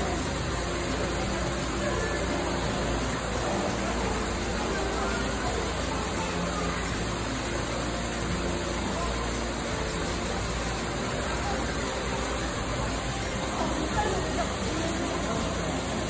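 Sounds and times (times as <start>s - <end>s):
faint indistinct voices: 0.0s - 16.0s
waterfall splashing into pool: 0.0s - 16.0s.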